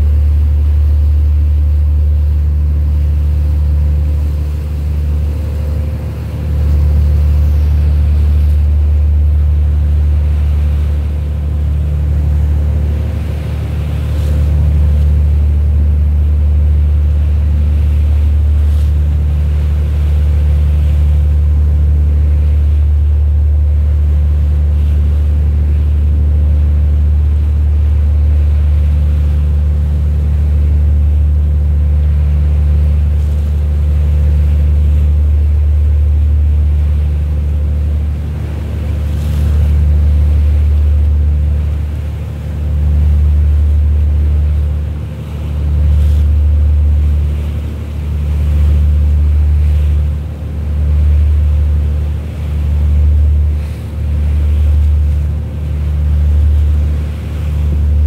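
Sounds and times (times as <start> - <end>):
boat engine droning: 0.0 - 58.0
water noise: 0.0 - 58.0
wind: 0.0 - 58.0.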